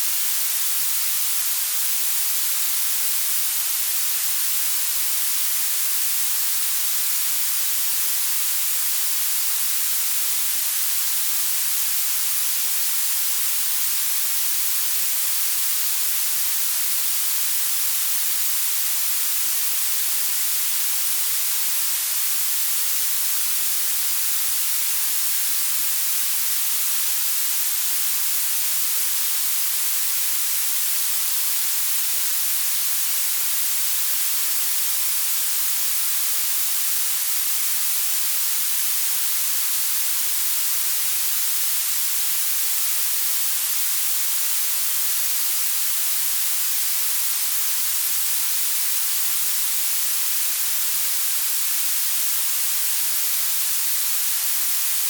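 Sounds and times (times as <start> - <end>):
bright high-pitched hiss: 0.0 - 55.0.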